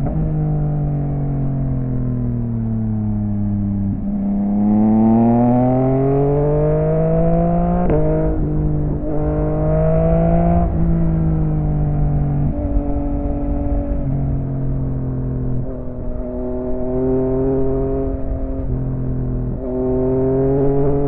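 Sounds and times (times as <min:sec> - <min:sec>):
motorcycle engine revving through gears: 0:00.0 - 0:21.0.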